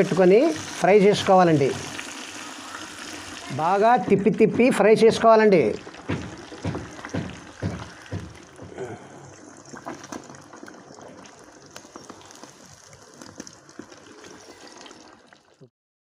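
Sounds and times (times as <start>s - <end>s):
fish deep-frying in oil: 0.0s - 15.7s.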